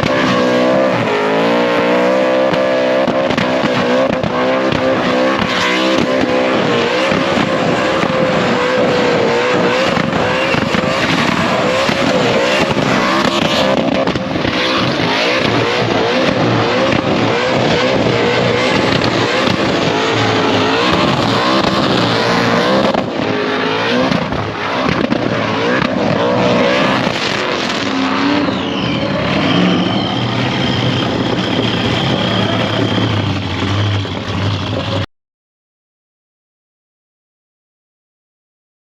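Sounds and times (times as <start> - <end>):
engine revving at high revs: 0.0 - 32.8.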